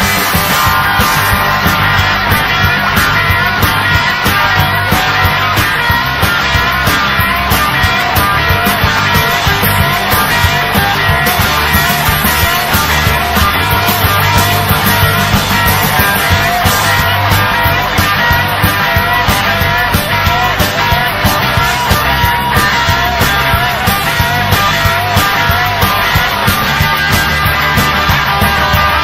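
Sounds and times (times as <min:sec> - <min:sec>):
live rock band playing: 0:00.0 - 0:29.0
steady drum beat: 0:00.0 - 0:29.0.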